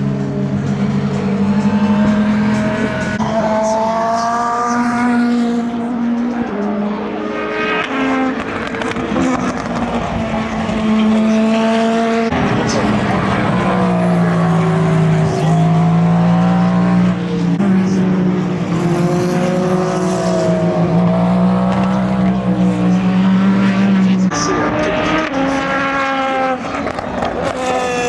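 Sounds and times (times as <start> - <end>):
higher-pitched engine: 0.0 - 28.0
race car engines: 0.0 - 28.0.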